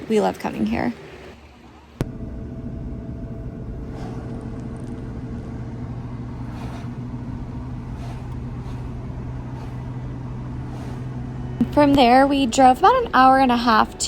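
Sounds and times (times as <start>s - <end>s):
car engine and road hum: 1.9s - 14.0s.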